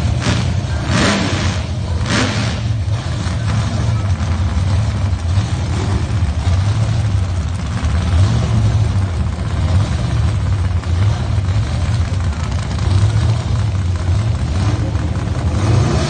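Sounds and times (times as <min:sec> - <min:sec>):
race car engines idling: 0:00.0 - 0:16.0.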